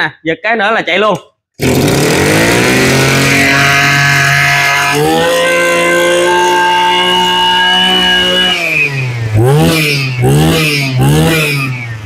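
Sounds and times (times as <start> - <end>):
brush cutter engine revving: 1.6 - 12.0.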